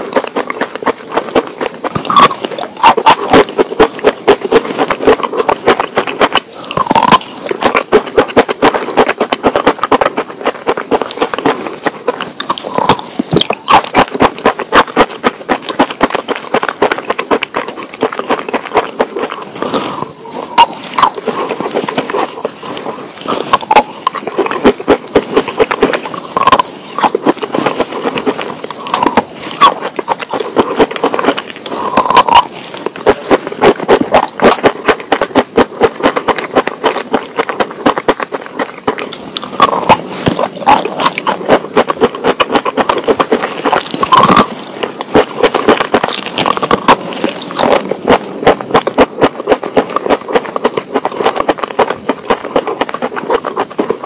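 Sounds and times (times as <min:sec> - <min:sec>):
crunching and chewing crispy food: 0:00.0 - 0:54.0.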